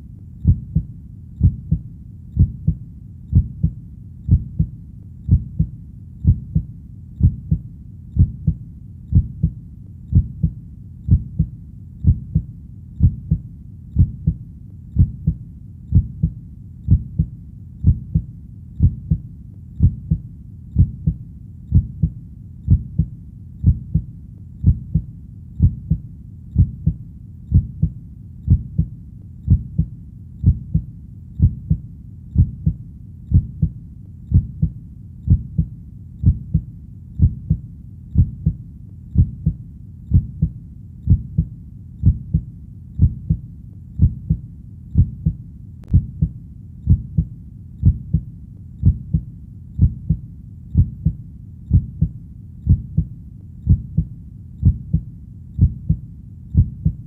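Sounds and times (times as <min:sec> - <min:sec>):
heartbeat thumps: 0:00.4 - 0:31.8, 0:32.4 - 0:57.0.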